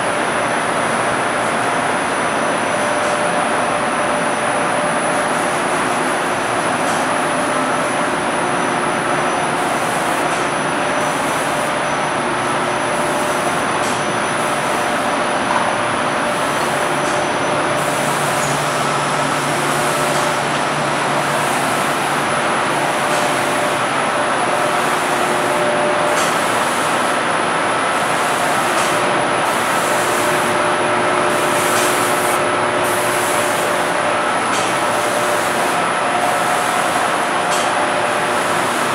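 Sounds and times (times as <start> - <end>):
spray machine rush of air: 1.2 - 38.9.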